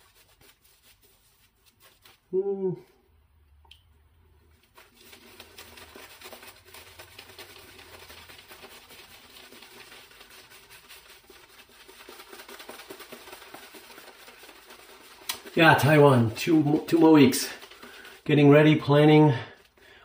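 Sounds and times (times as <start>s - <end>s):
shaving brush rubbing lather: 0.0s - 2.3s, 4.5s - 19.1s.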